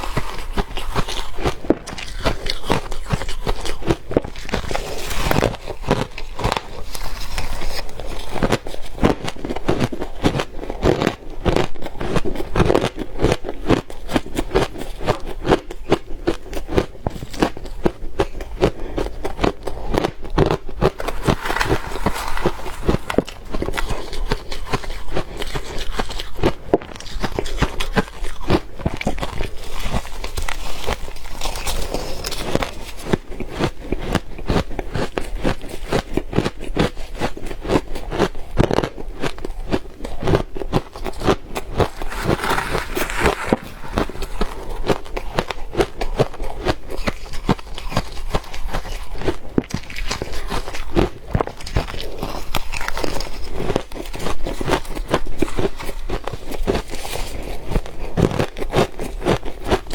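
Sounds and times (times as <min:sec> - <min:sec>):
person chewing crunchy ice: 0:00.0 - 0:59.9.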